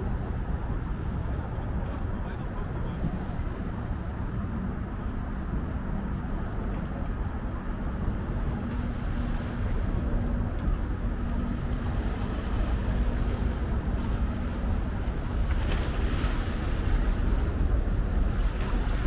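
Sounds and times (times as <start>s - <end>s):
faint engine hum: 0.0s - 19.0s
wind rumbling on microphone: 0.0s - 19.0s.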